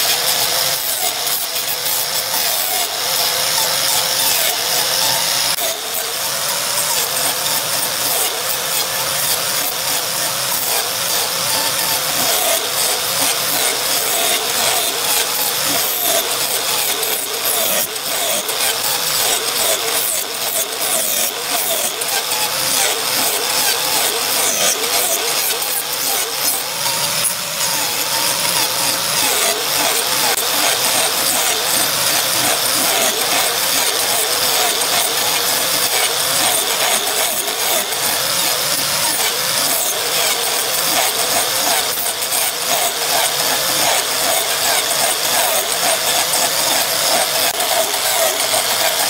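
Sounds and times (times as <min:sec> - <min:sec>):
angle grinder motor whine: 0:00.0 - 0:49.0
rasp of wood being ground: 0:00.0 - 0:49.0.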